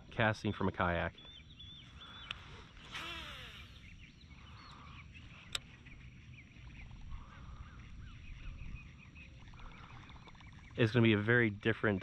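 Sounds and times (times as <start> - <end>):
low outdoor rumble: 0.0 - 12.0
animal calls around a pond: 1.4 - 11.2.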